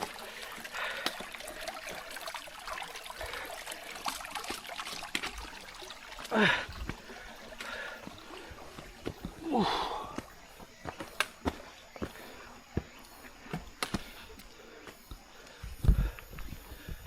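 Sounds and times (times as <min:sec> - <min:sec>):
river water trickling: 0:00.0 - 0:16.9
splashes of wading: 0:00.0 - 0:17.0.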